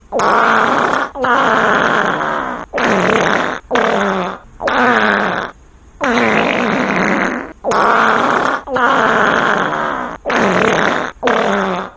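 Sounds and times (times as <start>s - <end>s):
farts: 0.1s - 11.9s.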